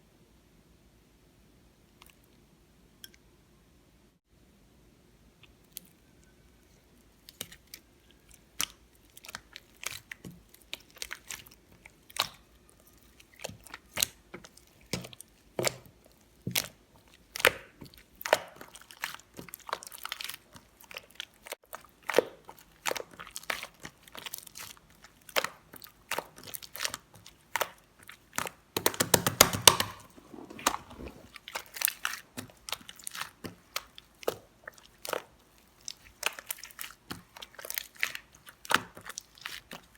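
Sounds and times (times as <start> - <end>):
slime squished by hand: 7.3 - 39.9.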